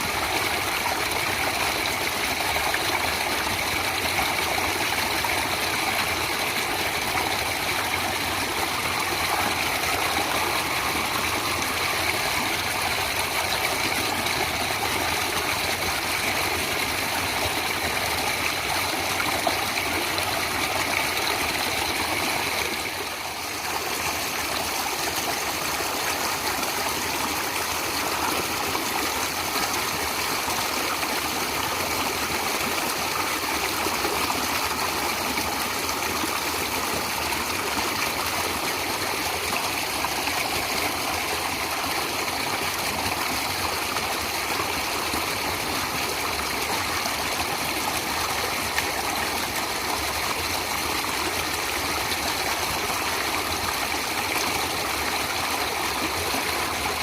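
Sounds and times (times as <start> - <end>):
stream water flowing and splashing: 0.0 - 57.0.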